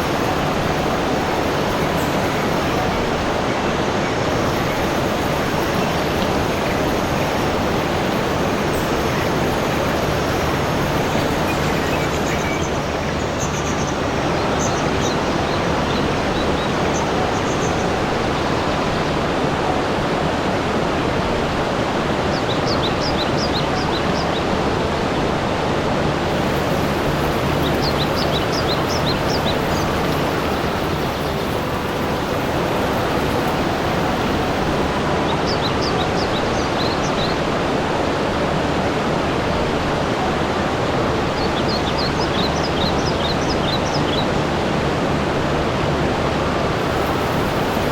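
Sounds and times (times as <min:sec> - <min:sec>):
flowing water: 0:00.0 - 0:47.9.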